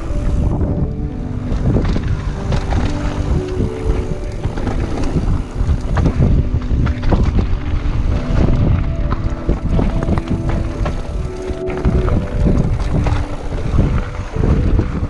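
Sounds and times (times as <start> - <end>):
wind buffeting microphone: 0.0 - 15.0
mountain bike rattling: 1.4 - 15.0.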